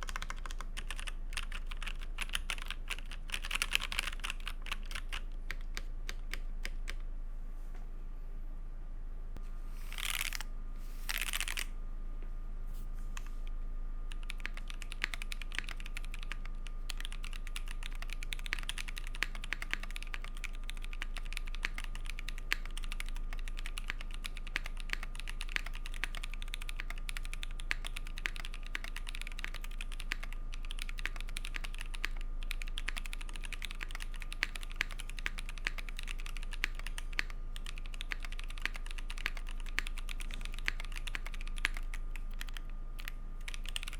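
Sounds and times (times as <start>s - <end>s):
mechanical keyboard typing: 0.0s - 7.0s, 11.1s - 11.7s, 14.1s - 43.9s.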